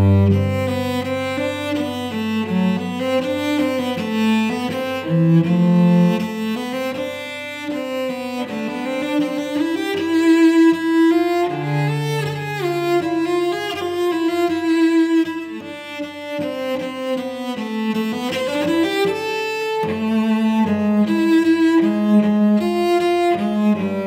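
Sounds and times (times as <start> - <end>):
solo cello bowed: 0.0 - 24.0.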